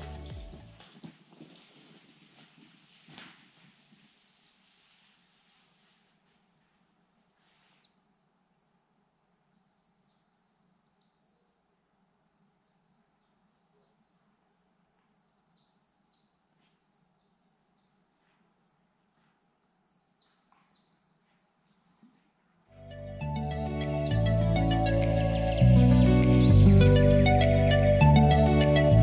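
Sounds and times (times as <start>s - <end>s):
faint bird chirping: 4.2s - 18.9s, 19.6s - 29.0s.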